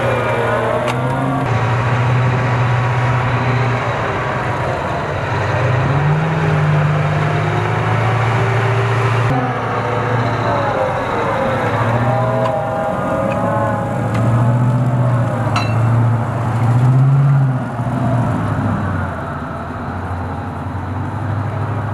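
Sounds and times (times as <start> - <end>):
tracked vehicle diesel engine: 0.0 - 21.9.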